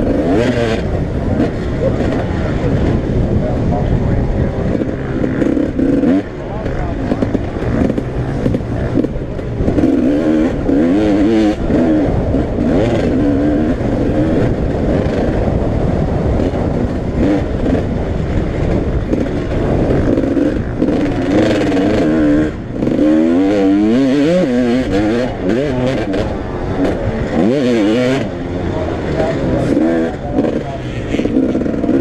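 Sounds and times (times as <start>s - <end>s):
motocross bikes revving: 0.0s - 32.0s.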